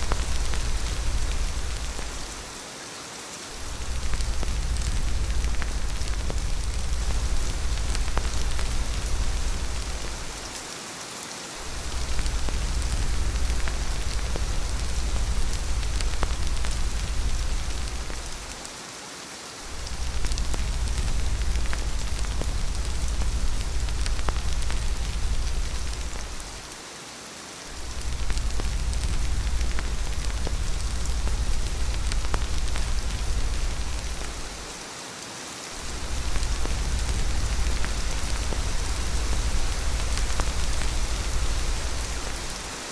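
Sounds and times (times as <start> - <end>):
low rumble of wind: 0.0 - 2.6, 3.5 - 10.7, 11.6 - 18.8, 19.6 - 26.8, 27.7 - 34.9, 35.7 - 42.9
rain drops ticking: 0.0 - 42.9
rain hiss: 0.0 - 42.9.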